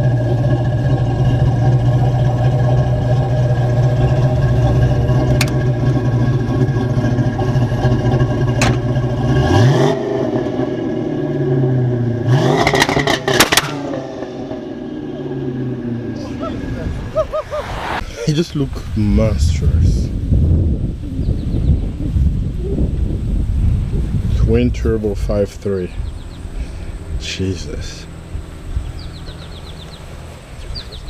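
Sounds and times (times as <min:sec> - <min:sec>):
car engine idling and revving: 0:00.0 - 0:31.0
exhaust crackles: 0:00.0 - 0:31.0.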